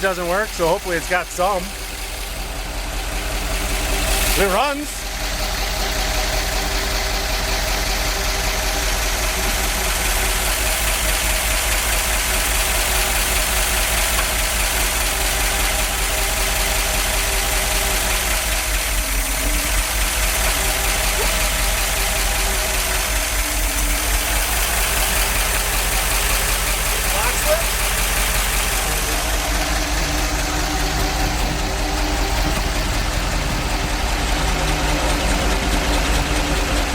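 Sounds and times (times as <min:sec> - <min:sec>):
noisy valve train ticking: 0:00.0 - 0:36.9
truck engine idling: 0:00.0 - 0:36.9.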